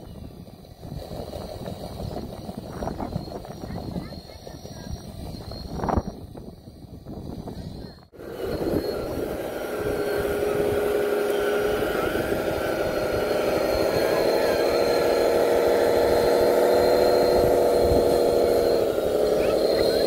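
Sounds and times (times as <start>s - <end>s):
toy bulldozer mechanical whine: 0.0s - 20.0s.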